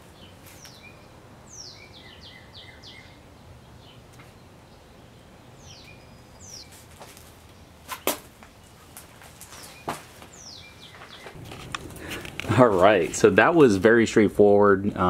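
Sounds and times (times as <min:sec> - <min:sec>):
birds chirping faintly: 0:00.0 - 0:14.6.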